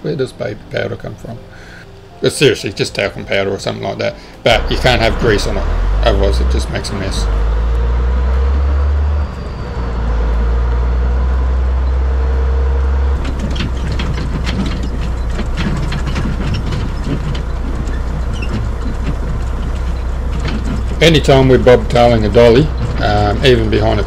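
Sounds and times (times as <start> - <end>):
towed trailer rattling and clanking: 0.0 - 24.0
truck engine droning: 0.0 - 24.0.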